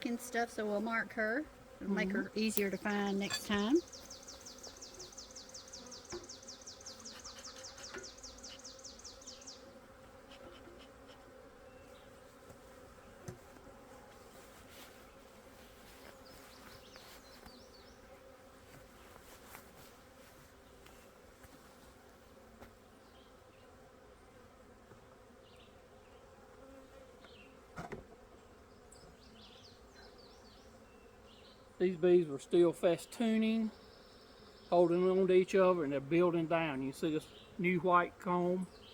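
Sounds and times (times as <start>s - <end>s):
honey bees buzzing: 0.0s - 38.9s.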